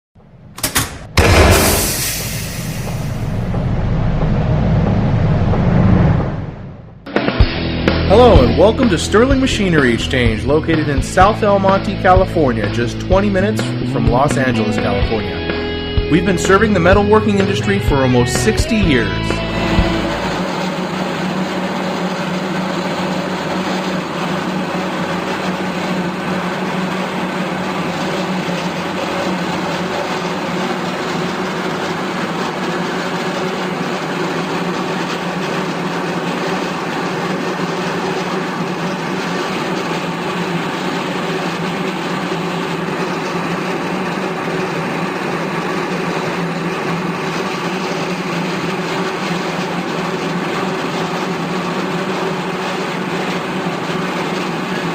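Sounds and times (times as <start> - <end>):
bandsaw running: 8.2 - 54.9.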